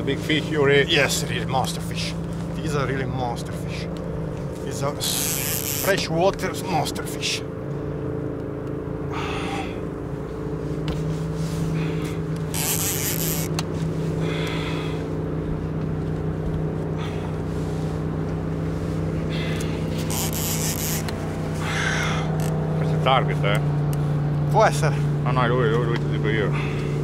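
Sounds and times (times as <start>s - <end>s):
boat motor running: 0.0s - 27.0s.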